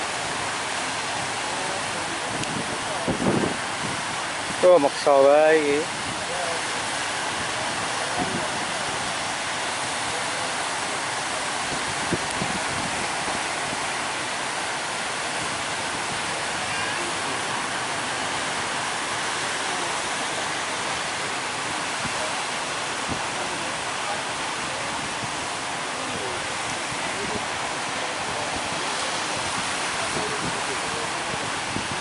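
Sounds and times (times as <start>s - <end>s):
ocean waves breaking: 0.0s - 32.0s.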